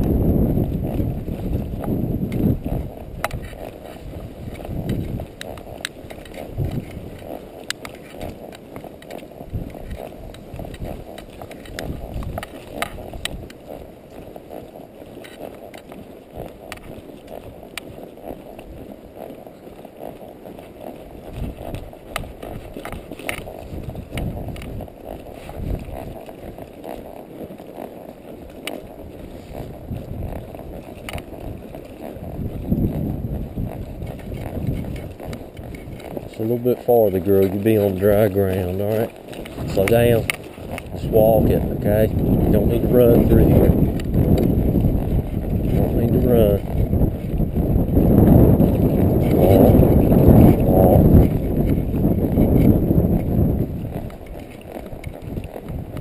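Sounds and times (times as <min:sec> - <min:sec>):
horse hoofbeats: 0:00.0 - 0:56.0
horse tack clicking: 0:00.0 - 0:56.0
wind rumbling on microphone: 0:00.0 - 0:56.0.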